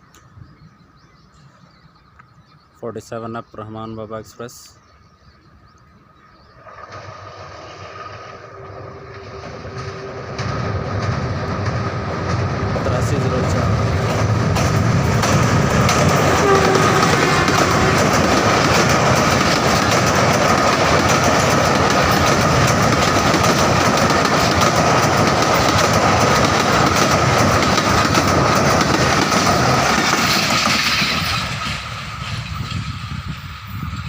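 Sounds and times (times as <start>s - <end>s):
train wheels clattering on track: 6.7s - 34.0s.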